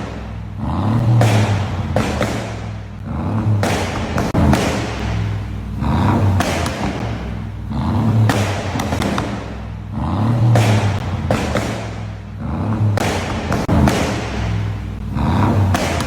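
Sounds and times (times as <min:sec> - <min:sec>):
engine revving: 0:00.0 - 0:16.0
exhaust popping and crackling: 0:00.0 - 0:16.0.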